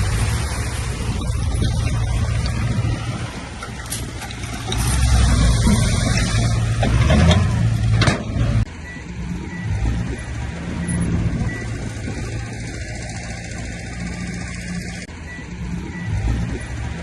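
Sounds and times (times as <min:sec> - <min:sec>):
heavy diesel machinery engine: 0:00.0 - 0:17.0.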